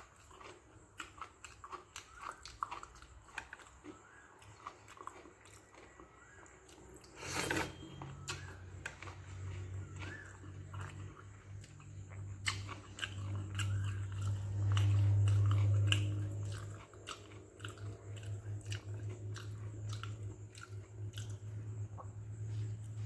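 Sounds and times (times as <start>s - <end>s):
person chewing food: 0.0s - 23.0s
steady low hum: 0.0s - 23.0s.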